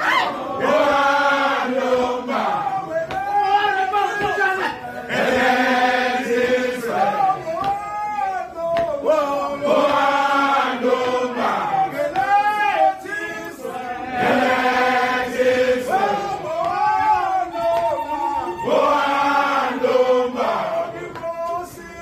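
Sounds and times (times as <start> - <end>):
men chanting in unison: 0.1 - 22.0.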